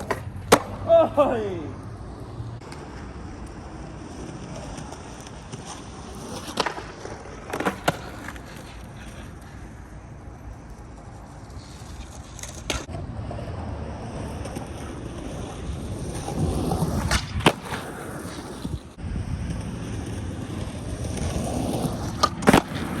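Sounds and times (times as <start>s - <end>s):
skateboard clacking on ground: 0.0s - 1.4s, 2.0s - 23.0s
skateboard wheels rolling: 0.0s - 23.0s.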